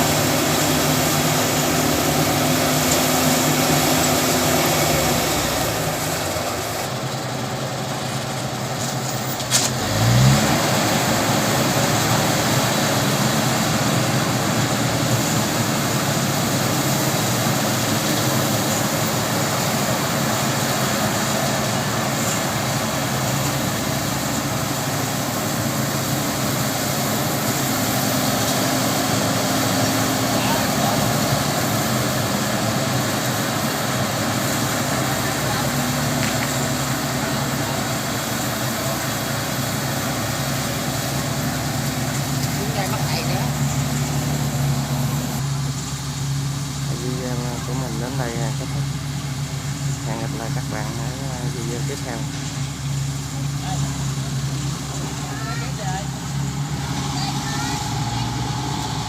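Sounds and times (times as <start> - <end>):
engine revving: 0.0 - 7.4, 9.1 - 45.5, 46.9 - 59.0
farm machine engine running: 0.0 - 59.0.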